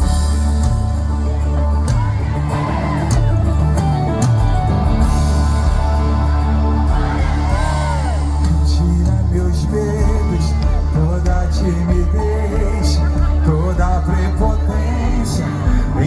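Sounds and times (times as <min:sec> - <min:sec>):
live band playing worship music: 0:00.0 - 0:16.0.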